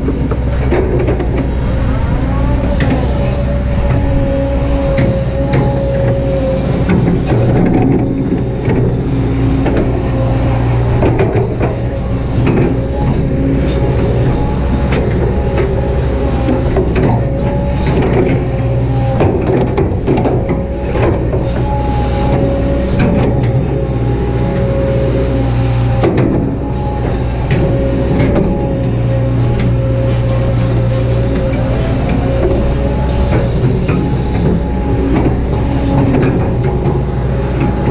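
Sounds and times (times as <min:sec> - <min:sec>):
excavator diesel engine running: 0:00.0 - 0:37.9
hydraulic whine: 0:00.0 - 0:37.9.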